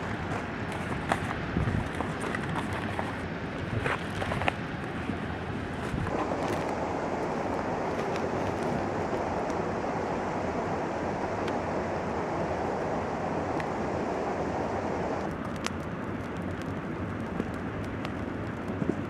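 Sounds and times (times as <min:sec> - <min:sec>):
wind rushing on microphone: 0:00.0 - 0:15.4.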